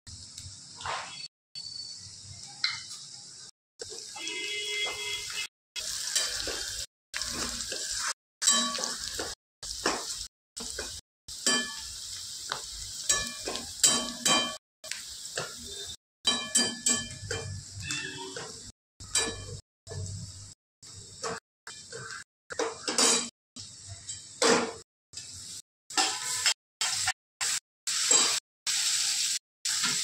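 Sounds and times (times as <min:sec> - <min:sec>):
onion sizzling in oil: 0:00.1 - 0:19.3, 0:25.1 - 0:30.0.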